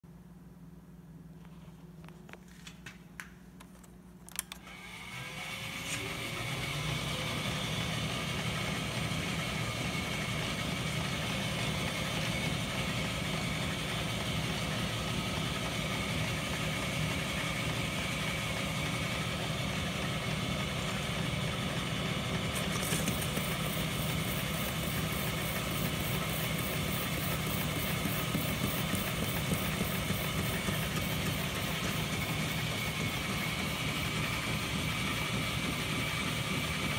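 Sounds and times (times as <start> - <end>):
lathe motor running: 4.4 - 36.9.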